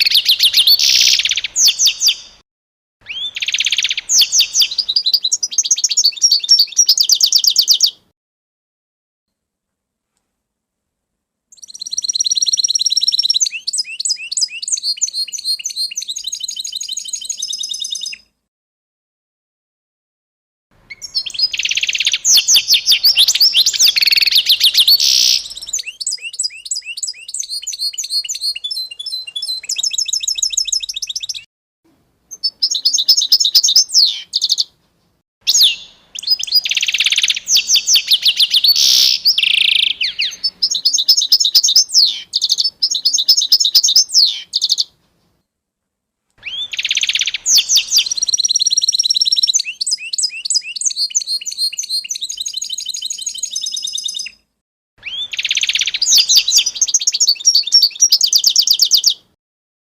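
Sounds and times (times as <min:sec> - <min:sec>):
songbird chirping and trilling: 0:00.0 - 0:02.4, 0:03.0 - 0:08.1, 0:11.5 - 0:18.4, 0:20.8 - 0:31.5, 0:32.3 - 0:34.8, 0:35.5 - 0:45.0, 0:46.4 - 0:59.4.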